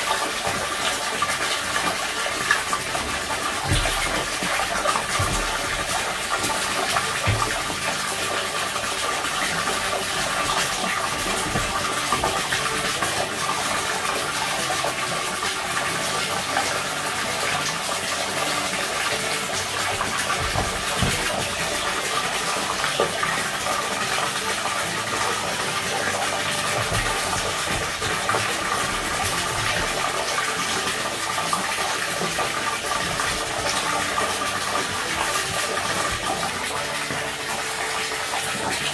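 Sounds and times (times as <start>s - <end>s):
water pouring into paddling pool: 0.0s - 38.9s.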